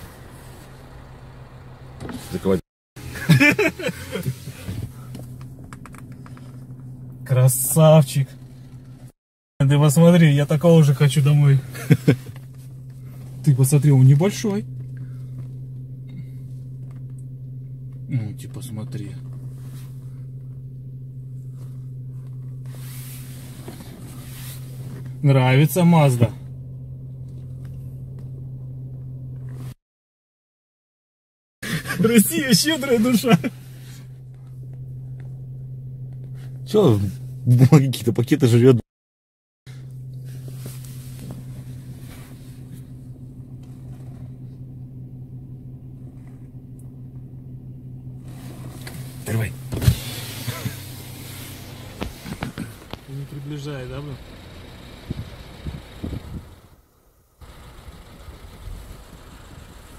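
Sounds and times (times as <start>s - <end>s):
car engine idling: 0.0s - 9.1s, 9.8s - 29.7s, 31.6s - 37.4s, 39.7s - 59.9s.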